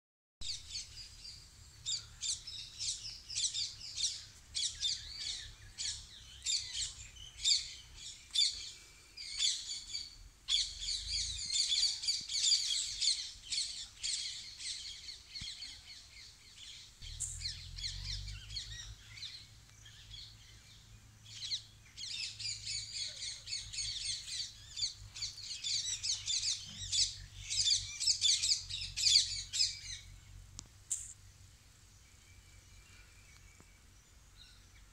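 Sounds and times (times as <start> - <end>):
small birds chirping: 0.4 - 34.9.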